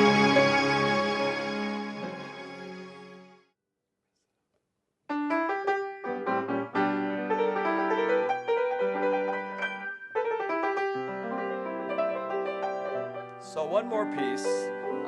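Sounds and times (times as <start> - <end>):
piano chords and melody: 0.0 - 3.4, 5.1 - 15.0.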